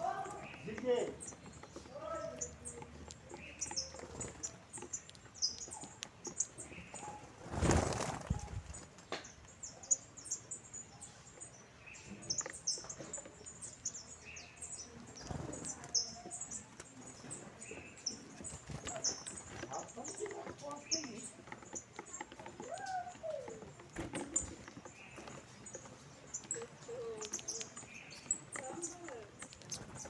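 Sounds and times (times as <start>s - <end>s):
finches chirping: 0.0s - 30.0s.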